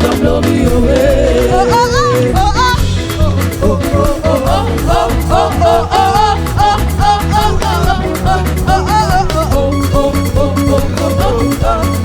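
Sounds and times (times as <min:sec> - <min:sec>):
gospel band playing: 0:00.0 - 0:12.0
person singing: 0:00.0 - 0:12.0.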